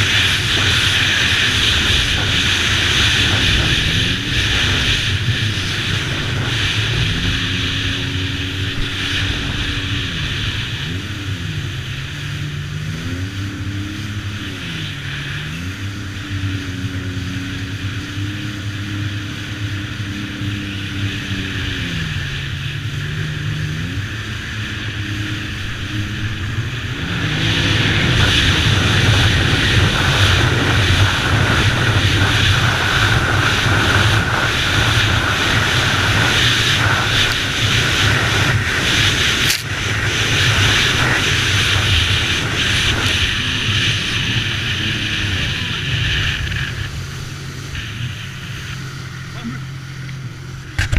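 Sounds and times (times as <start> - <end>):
rush of wind and water: 0.0 - 50.9
watercraft engine running: 0.0 - 50.9.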